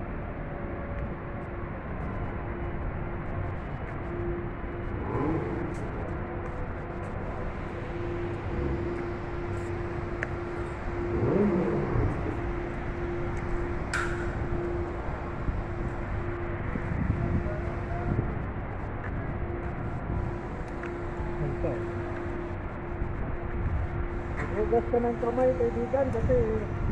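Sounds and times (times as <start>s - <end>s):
steady machinery drone: 0.0s - 26.9s.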